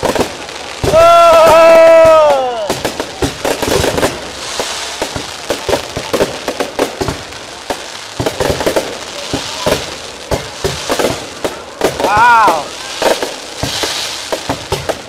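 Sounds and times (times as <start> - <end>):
crackle and hiss of sparks: 0.0 - 15.0
fireworks bangs: 0.0 - 15.0.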